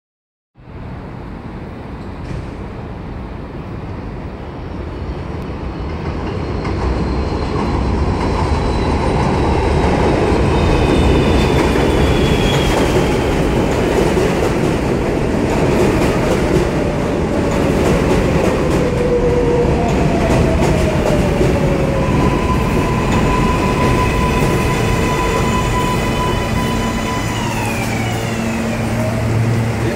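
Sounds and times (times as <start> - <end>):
train rumbling over rails: 0.6 - 29.9.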